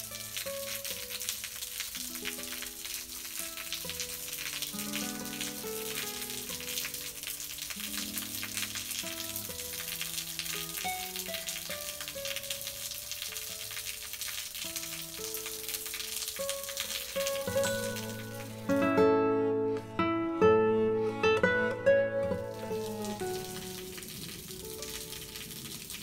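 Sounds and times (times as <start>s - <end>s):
water trickling down rock: 0.0s - 18.7s, 22.2s - 26.0s
calm background music: 0.0s - 26.0s.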